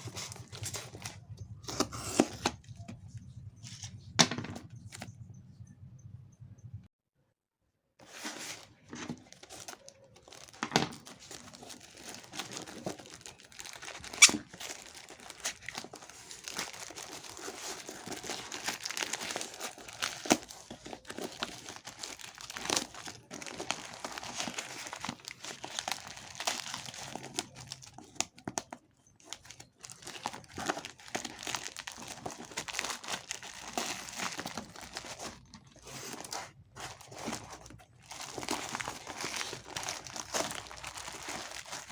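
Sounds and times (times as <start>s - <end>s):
packaging crinkling and tearing: 0.0s - 3.9s, 8.1s - 41.9s.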